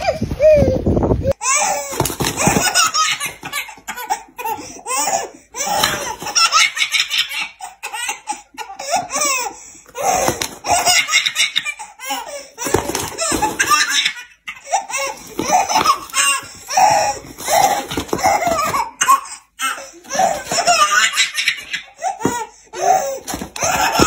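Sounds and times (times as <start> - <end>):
baby laughing: 0.0 - 24.0.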